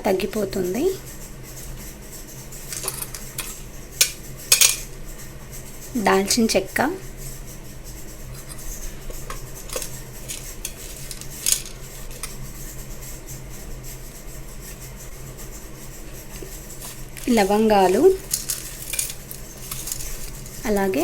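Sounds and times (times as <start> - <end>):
low steady hum: 2.6 - 21.0.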